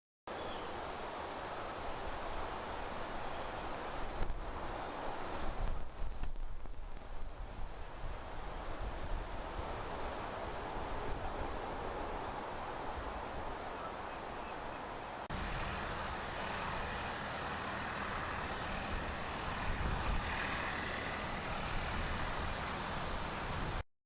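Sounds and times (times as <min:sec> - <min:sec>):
outdoor background hiss: 0:00.3 - 0:23.8.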